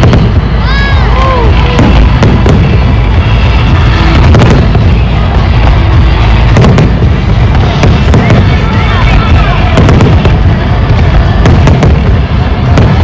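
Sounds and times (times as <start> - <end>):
fireworks rumble and crackle: 0.0 - 13.0
fireworks sharp bangs: 0.0 - 13.0.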